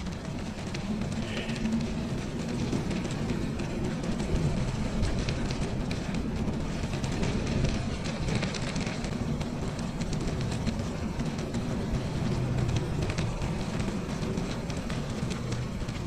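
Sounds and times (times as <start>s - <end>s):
bicycle tyre and drivetrain noise: 0.0s - 16.0s
wind buffeting microphone: 0.0s - 16.0s.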